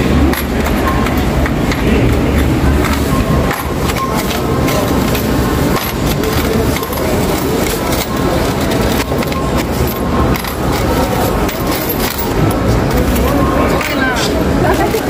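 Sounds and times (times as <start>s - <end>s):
clicks and knocks from checkouts: 0.0s - 14.1s
hubbub of indistinct voices: 0.0s - 15.0s.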